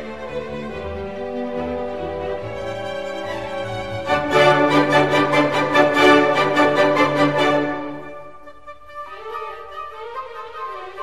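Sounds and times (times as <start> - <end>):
orchestral strings: 0.0 - 11.0.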